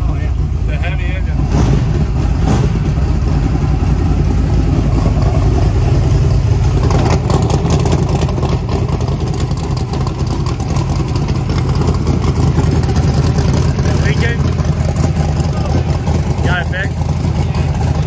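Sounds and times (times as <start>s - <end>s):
vee eight engine idling: 0.0s - 18.0s.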